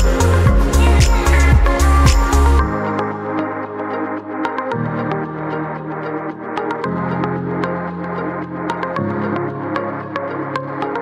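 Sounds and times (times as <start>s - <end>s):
low synth notes: 0.0s - 10.2s.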